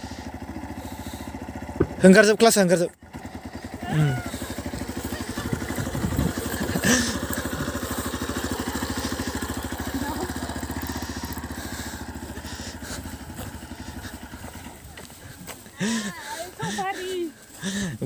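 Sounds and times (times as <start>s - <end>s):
motorcycle engine puttering: 0.0s - 18.0s.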